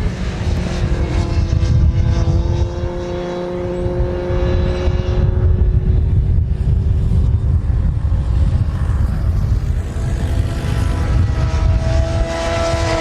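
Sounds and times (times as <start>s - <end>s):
heavy low rumble: 0.0s - 12.3s
motorcycle engine droning: 0.0s - 13.0s.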